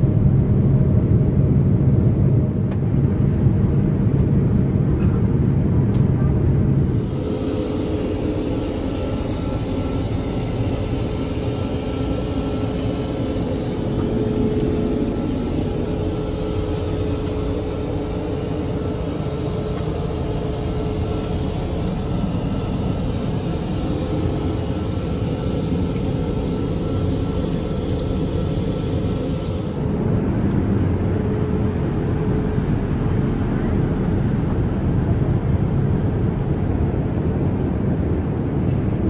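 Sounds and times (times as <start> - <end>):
airliner cabin hiss and rumble: 0.0 - 39.0
faint steady whine: 0.0 - 39.0.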